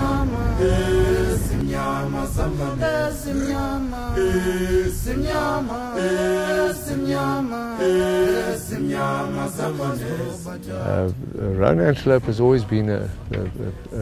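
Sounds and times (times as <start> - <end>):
voices chanting long notes: 0.0 - 11.5.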